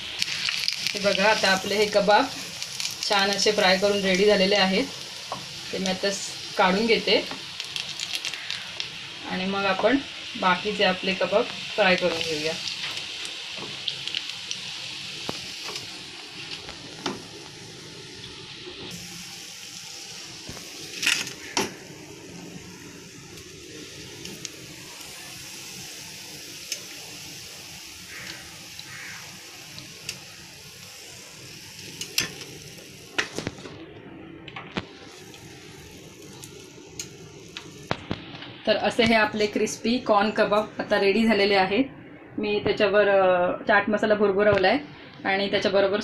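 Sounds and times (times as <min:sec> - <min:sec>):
food deep-frying in hot oil: 0:00.0 - 0:33.9, 0:34.6 - 0:41.4.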